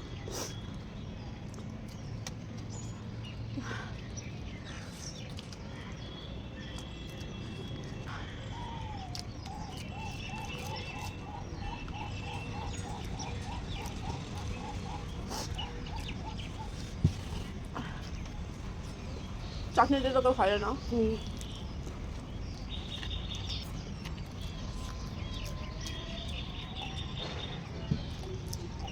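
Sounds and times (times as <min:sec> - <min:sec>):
steady low background noise: 0:00.0 - 0:28.9.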